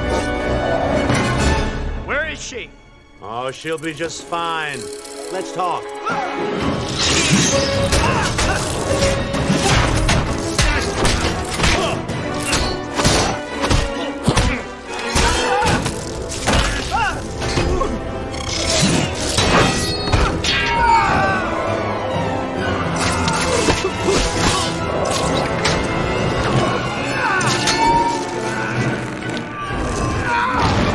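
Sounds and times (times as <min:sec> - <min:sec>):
orchestral film music: 0:00.0 - 0:30.9.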